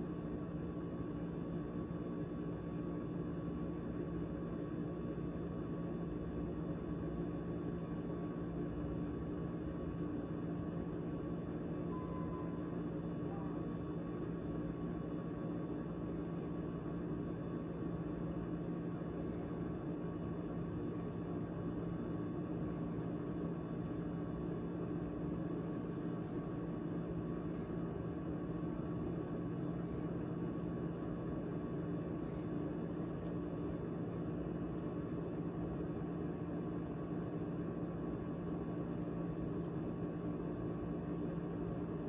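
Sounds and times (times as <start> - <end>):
refrigerator humming: 0.0 - 42.0.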